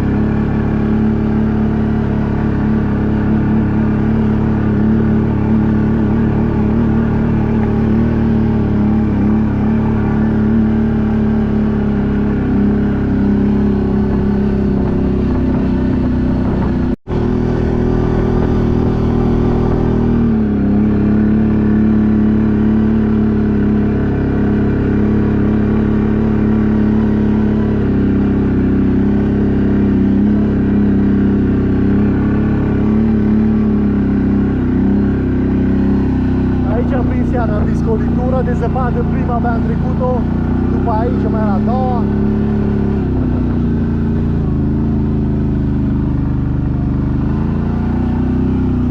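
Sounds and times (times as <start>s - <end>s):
atv engine droning: 0.0s - 48.9s.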